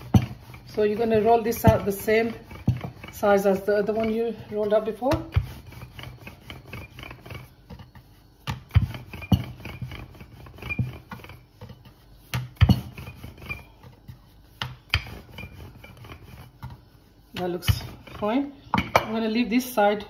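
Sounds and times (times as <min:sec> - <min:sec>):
rolling pin rubbing dough: 0:00.0 - 0:20.0.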